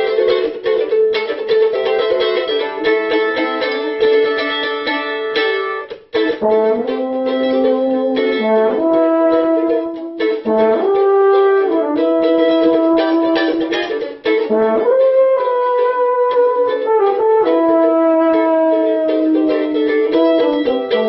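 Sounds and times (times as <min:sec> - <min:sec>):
mandolin picking rapid notes: 0:00.0 - 0:21.0.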